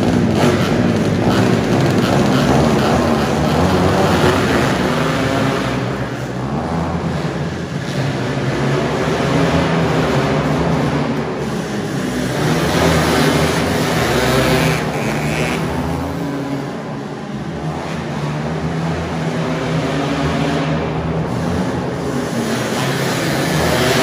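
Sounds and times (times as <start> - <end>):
two-stroke engines revving: 0.0 - 24.0.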